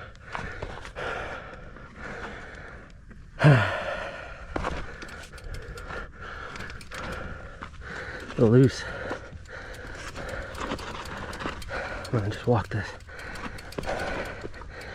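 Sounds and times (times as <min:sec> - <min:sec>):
person breathing hard: 0:00.0 - 0:14.9.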